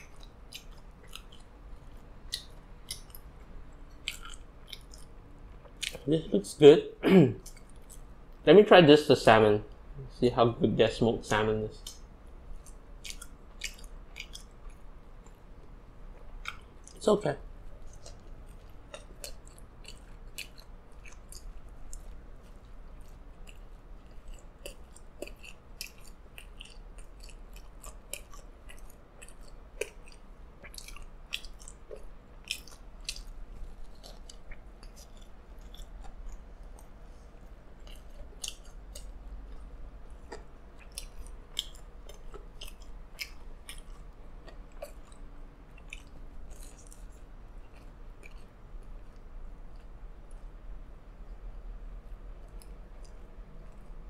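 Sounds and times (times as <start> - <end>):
person biting and chewing: 0.0 - 6.1, 11.8 - 50.5.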